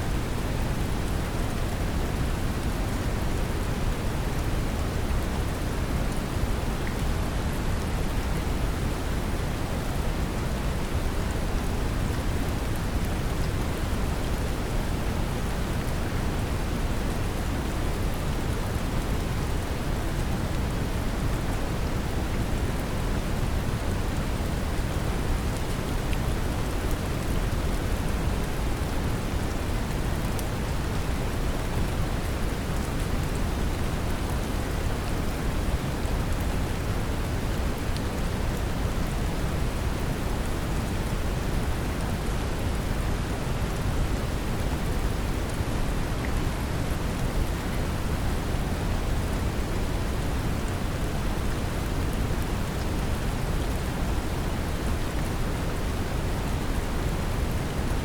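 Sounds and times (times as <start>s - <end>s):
brown noise rumbling hiss: 0.0s - 58.0s
gentle rain: 0.0s - 58.0s.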